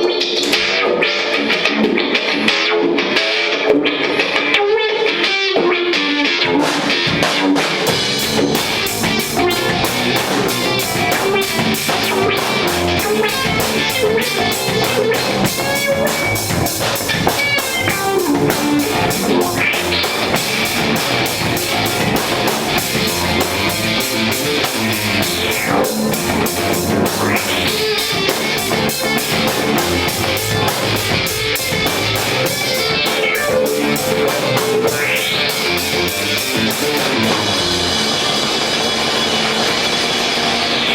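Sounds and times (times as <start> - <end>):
bass guitar: 0.0 - 40.9
electric guitar: 0.0 - 40.9
fast cymbal beat on drums: 6.6 - 40.9.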